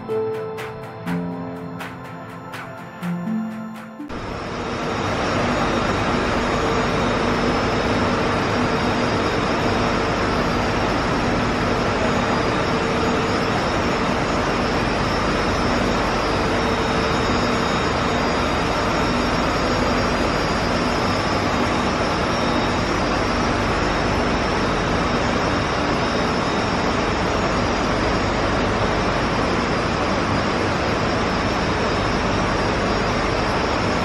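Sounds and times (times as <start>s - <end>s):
ventilation machinery roar: 4.2s - 34.0s.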